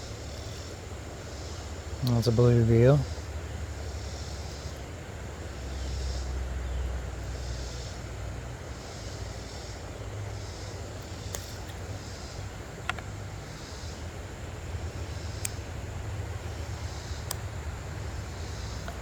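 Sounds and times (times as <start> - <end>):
pulsing hiss: 0.0 - 19.0.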